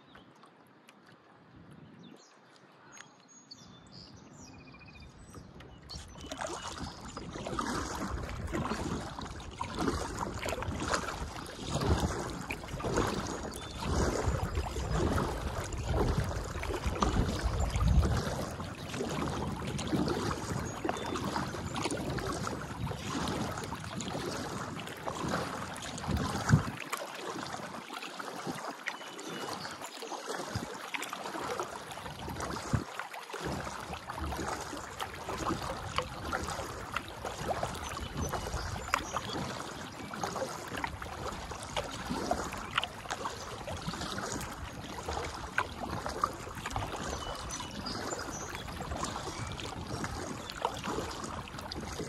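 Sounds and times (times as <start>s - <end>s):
kayak paddle strokes in water: 5.1s - 52.0s.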